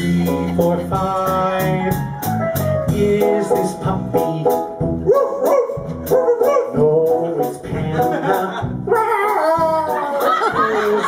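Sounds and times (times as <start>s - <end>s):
live band playing upbeat song: 0.0s - 11.0s.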